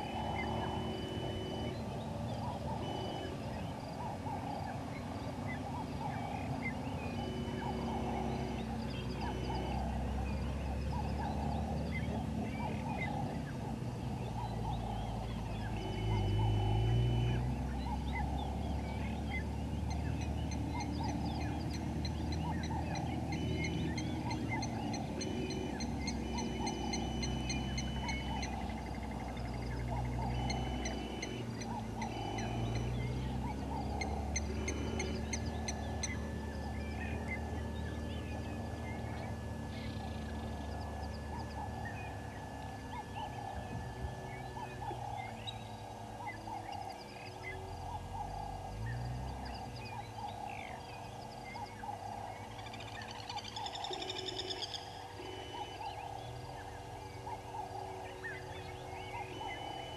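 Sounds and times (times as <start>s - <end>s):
birds calling: 0.0s - 59.9s
high bird chirps and trills: 0.0s - 59.9s
steady low hum: 0.0s - 59.9s.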